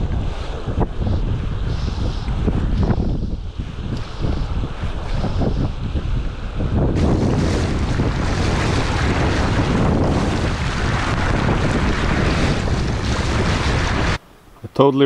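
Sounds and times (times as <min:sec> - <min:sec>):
wind buffeting the microphone: 0:00.0 - 0:14.2.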